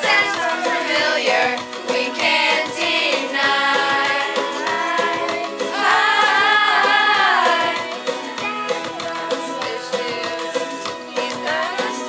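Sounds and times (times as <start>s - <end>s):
girls singing together: 0.0s - 12.0s
recorded backing track: 0.0s - 12.0s.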